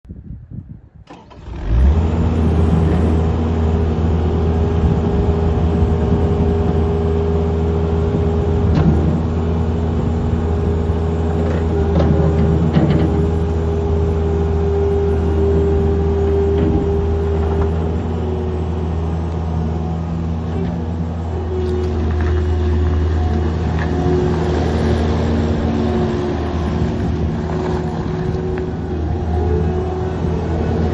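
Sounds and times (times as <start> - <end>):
diesel engine starting and running: 1.0 - 30.9.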